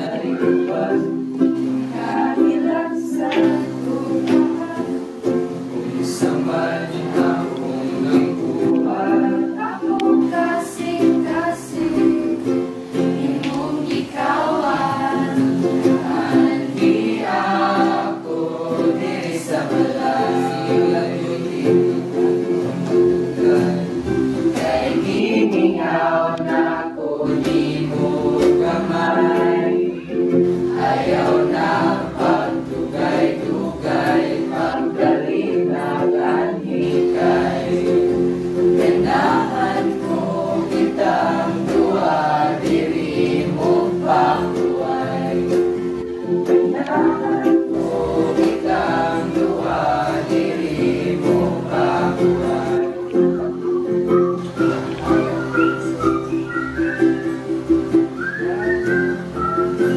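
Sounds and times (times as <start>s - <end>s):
strummed acoustic string instrument: 0.0s - 59.9s
young voices singing together: 0.0s - 59.9s.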